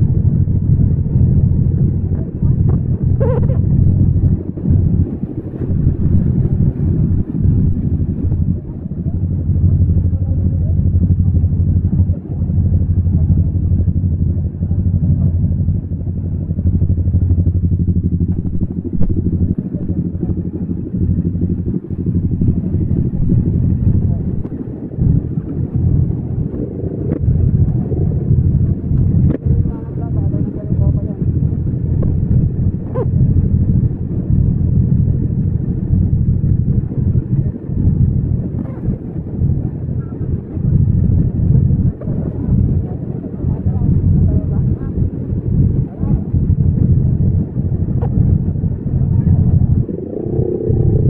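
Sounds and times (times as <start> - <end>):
motorcycle engine rumbling: 0.0 - 51.0.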